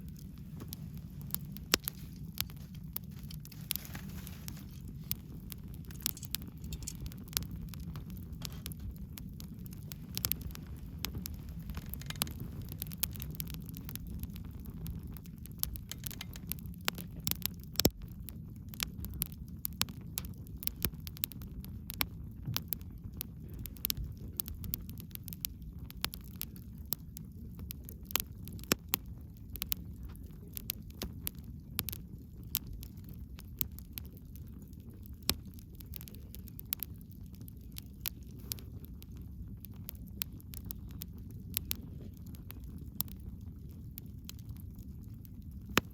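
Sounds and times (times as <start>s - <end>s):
burning wood crackling and popping: 0.0s - 45.9s
low rumble of flames: 0.0s - 45.9s.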